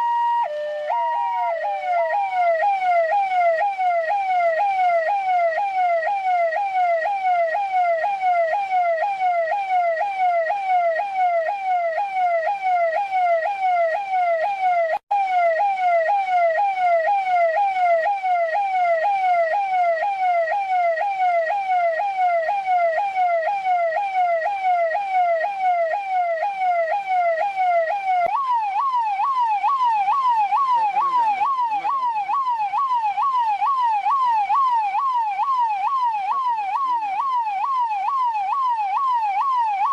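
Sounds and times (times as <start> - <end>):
police siren warbling: 0.0 - 39.9.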